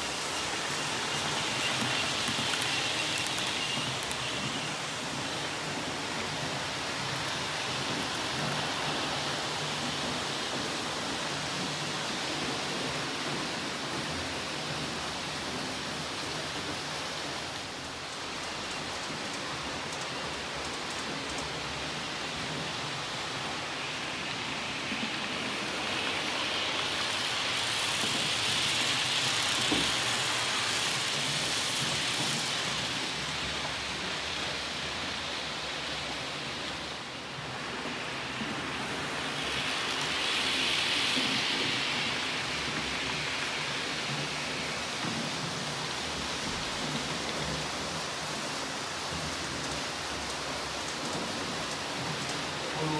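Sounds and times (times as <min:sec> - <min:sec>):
model trains rushing hiss: 0:00.0 - 0:52.9.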